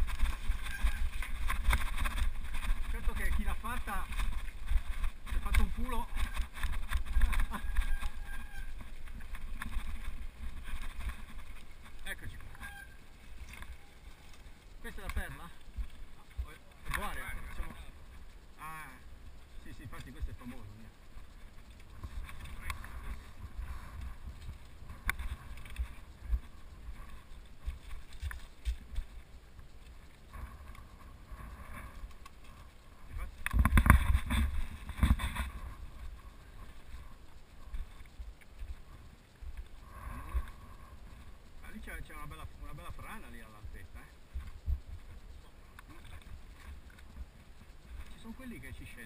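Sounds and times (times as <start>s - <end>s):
tyres crunching over gravel: 0.0s - 39.8s
bike rattling: 0.0s - 49.0s
wind rumble on microphone: 0.0s - 49.0s.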